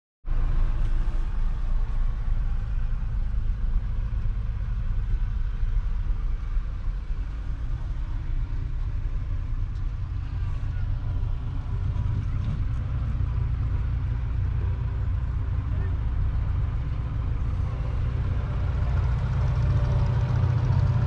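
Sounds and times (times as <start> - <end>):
tractor diesel engine drone: 0.3 - 21.0.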